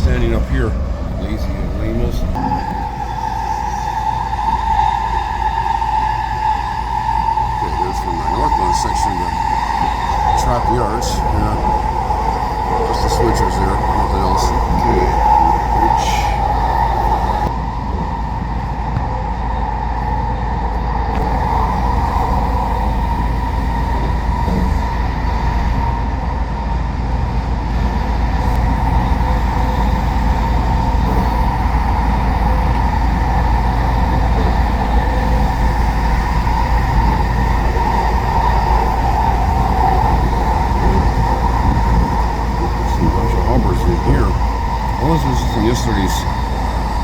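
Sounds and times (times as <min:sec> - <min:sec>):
steady hum: 0:00.0 - 0:47.0
train wheels rumbling on rails: 0:00.0 - 0:47.0.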